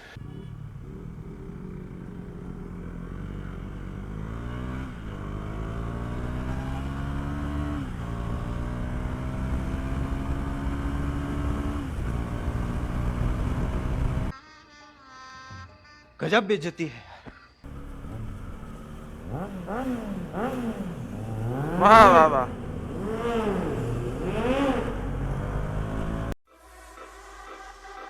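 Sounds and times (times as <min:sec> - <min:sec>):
motorcycle engine accelerating: 0:00.0 - 0:14.3, 0:17.7 - 0:26.4.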